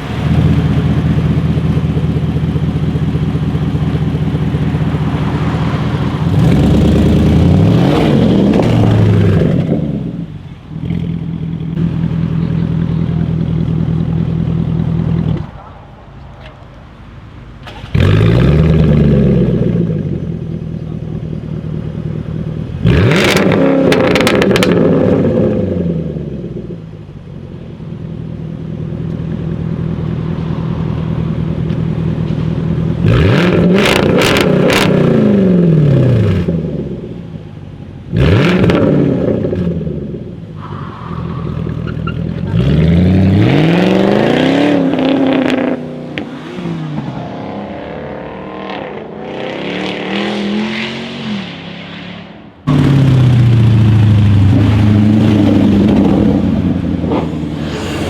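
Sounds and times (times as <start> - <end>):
car engine revving: 0.0 - 27.4, 28.1 - 58.0.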